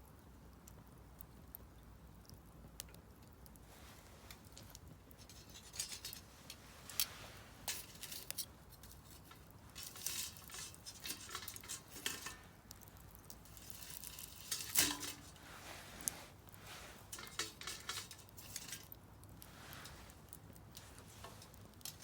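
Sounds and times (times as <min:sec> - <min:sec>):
faint hiss of fire: 0:00.0 - 0:22.0
wood fire crackling: 0:00.0 - 0:22.0.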